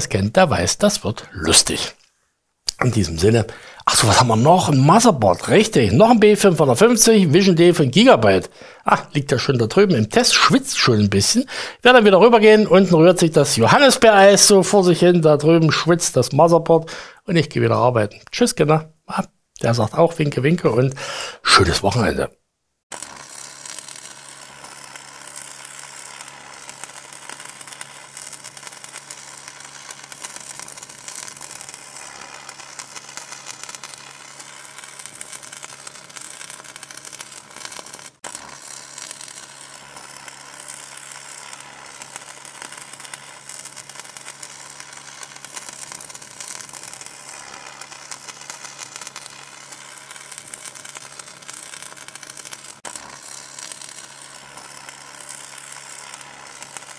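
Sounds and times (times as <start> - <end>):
electric crackling and sizzling: 0.0 - 2.1, 2.7 - 18.7, 19.6 - 22.3, 22.9 - 56.9.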